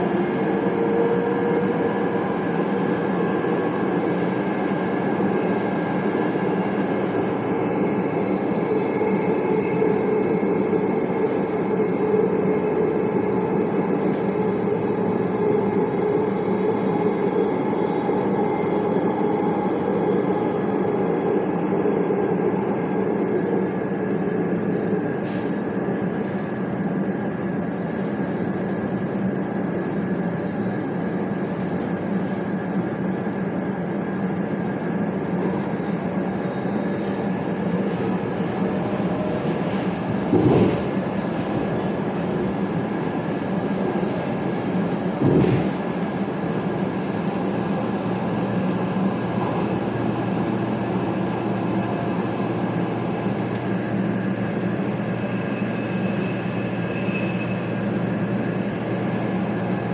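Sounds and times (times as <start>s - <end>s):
railcar rolling rumble: 0.0s - 59.9s.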